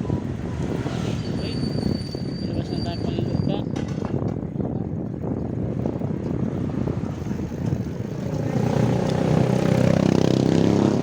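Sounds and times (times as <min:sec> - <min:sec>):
rough riding rumble: 0:01.2 - 0:11.0.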